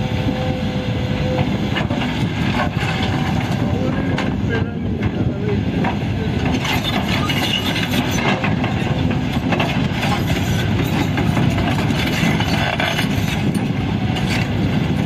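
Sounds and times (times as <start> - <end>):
diesel engine under load: 0.0 - 15.0
excavator tracks and bucket clanking: 0.0 - 15.0.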